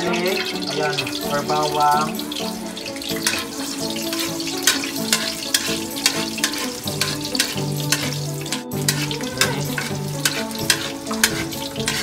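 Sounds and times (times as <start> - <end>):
background music with held notes: 0.0 - 12.0
garlic sizzling in hot oil: 0.0 - 12.0
spatula scraping a wok: 2.1 - 12.0.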